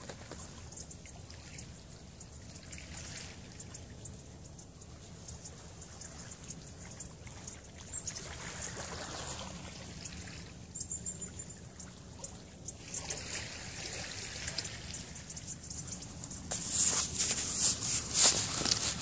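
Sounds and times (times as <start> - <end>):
steady outdoor hiss: 0.0 - 19.0
small birds chirping: 0.2 - 19.0.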